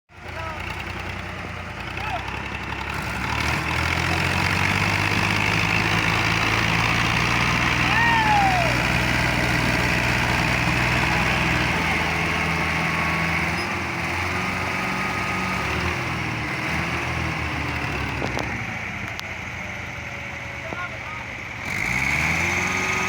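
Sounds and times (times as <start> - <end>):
tractor diesel engine running: 0.1 - 23.0.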